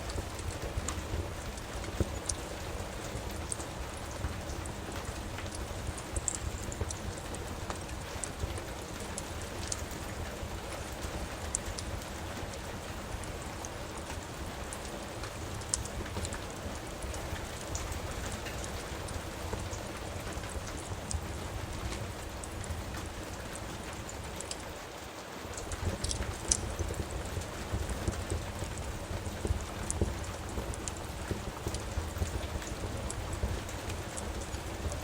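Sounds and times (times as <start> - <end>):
steady rain falling: 0.0 - 35.0
wood fire crackling: 0.0 - 35.0.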